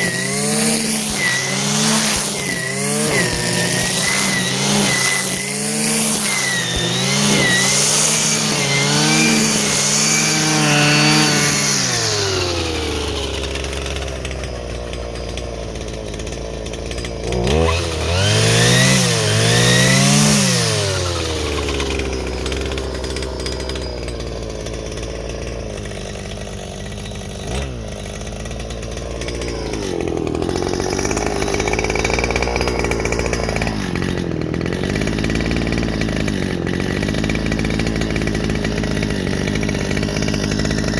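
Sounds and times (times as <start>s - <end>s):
brushcutter engine revving and idling: 0.0s - 40.9s.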